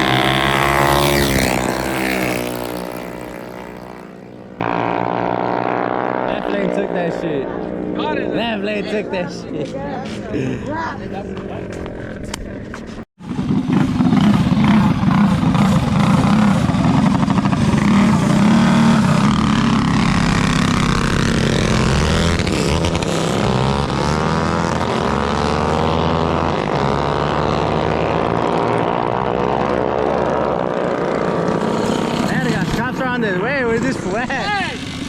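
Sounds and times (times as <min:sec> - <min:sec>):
mini bike engines revving: 0:00.0 - 0:35.0.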